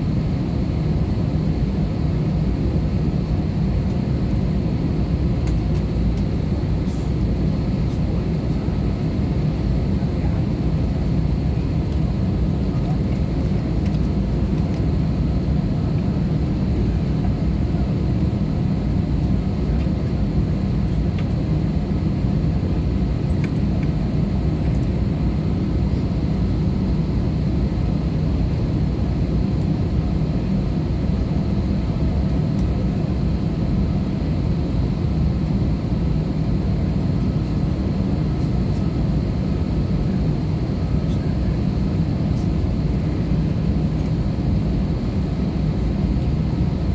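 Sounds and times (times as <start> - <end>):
airplane cabin drone: 0.0 - 46.9.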